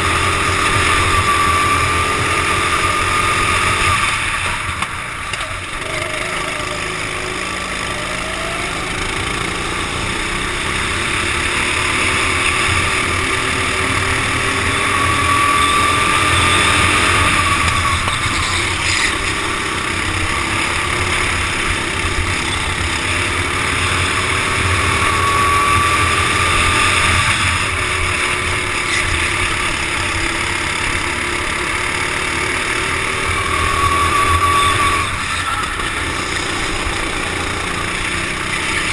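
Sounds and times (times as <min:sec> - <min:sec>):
kart engine accelerating: 0:00.0 - 0:38.9
other karts running nearby: 0:00.0 - 0:38.9.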